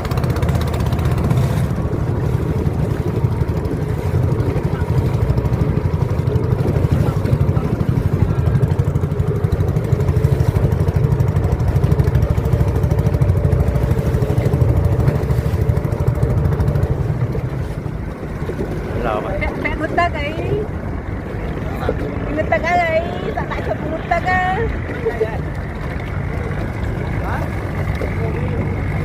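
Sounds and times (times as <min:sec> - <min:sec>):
boat engine chugging: 0:00.0 - 0:29.0.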